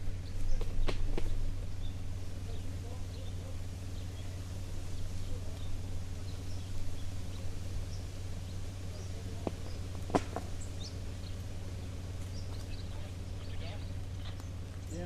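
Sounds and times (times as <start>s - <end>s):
faint bird chirps: 0.0s - 14.7s
car engine idling: 0.0s - 15.0s.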